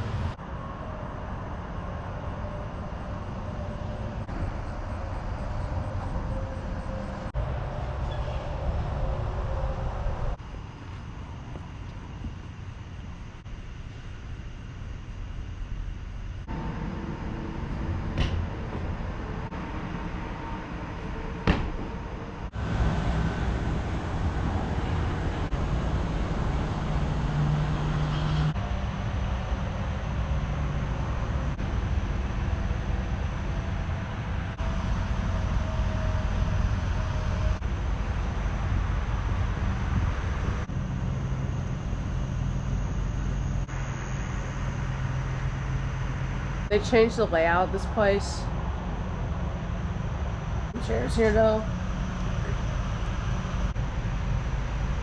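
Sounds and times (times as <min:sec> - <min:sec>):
vehicle rumble: 0:00.0 - 0:55.0.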